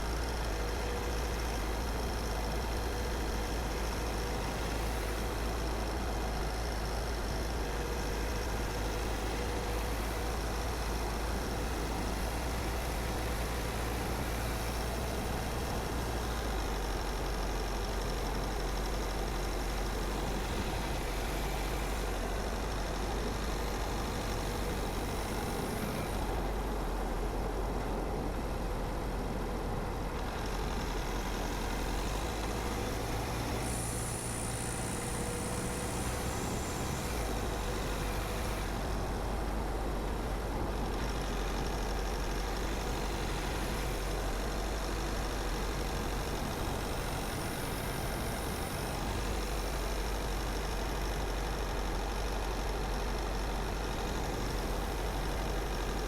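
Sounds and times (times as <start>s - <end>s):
car engine rumble: 0.0s - 56.0s.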